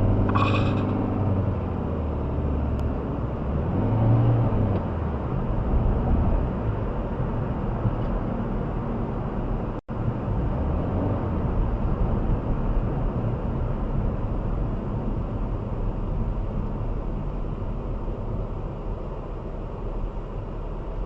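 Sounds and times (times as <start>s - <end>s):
moving vehicle road noise: 0.0s - 21.0s.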